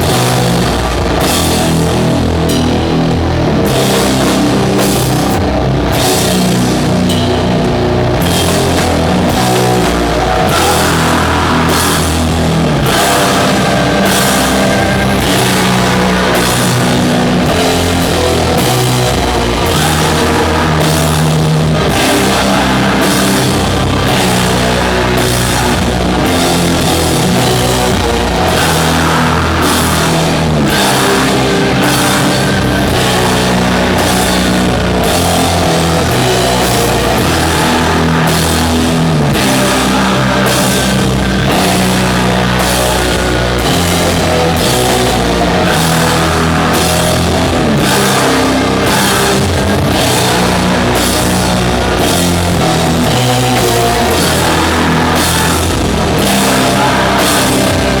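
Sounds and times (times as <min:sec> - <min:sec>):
heavy guitar and bass chords: 0:00.0 - 0:58.0.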